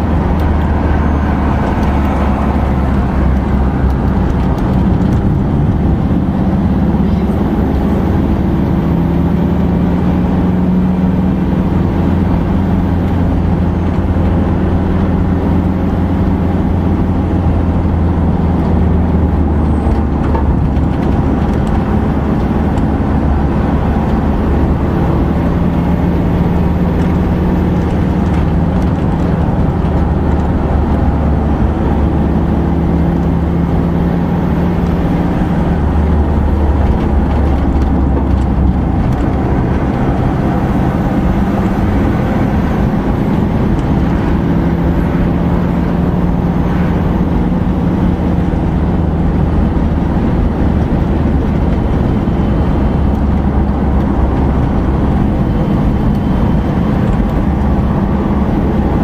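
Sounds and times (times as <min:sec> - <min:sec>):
engine hum and tyre noise: 0:00.0 - 0:59.0.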